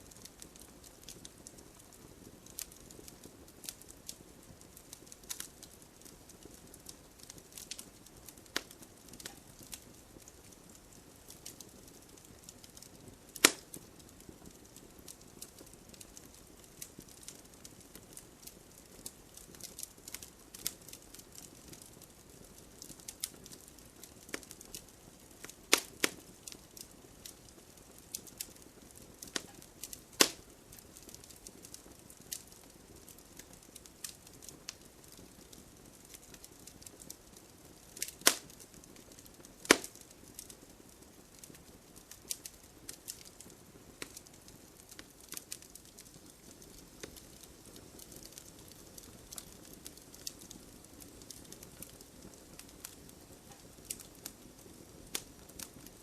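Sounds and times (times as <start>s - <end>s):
campfire crackling and popping: 0.0s - 56.0s
faint steady hiss: 0.0s - 56.0s.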